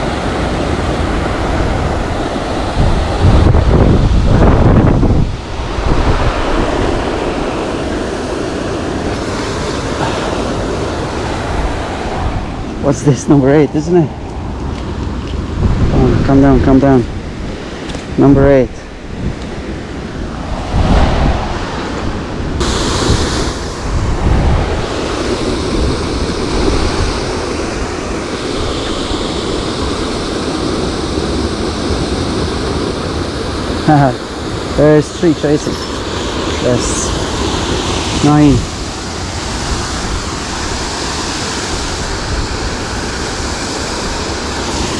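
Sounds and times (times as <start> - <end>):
wind blowing over microphone: 0.0 - 44.9.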